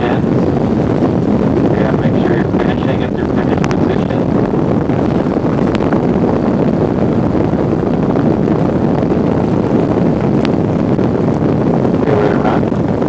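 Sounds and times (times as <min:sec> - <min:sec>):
outboard motor running: 0:00.0 - 0:13.0
wind on microphone: 0:00.0 - 0:13.0.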